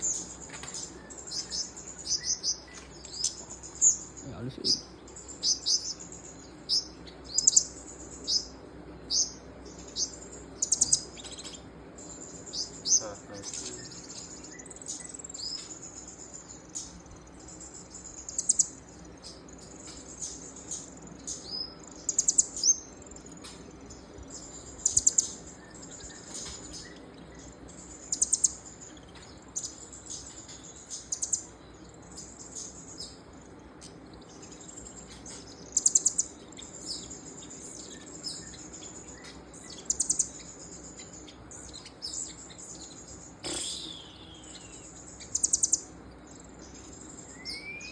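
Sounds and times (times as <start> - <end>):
faint steady hum: 0.0 - 47.9
songbird chirping: 0.0 - 47.9.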